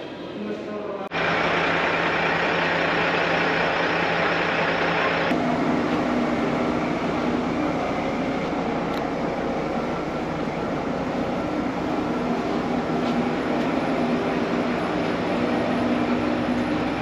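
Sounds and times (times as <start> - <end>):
diesel railcar engine idling: 1.1 - 17.0.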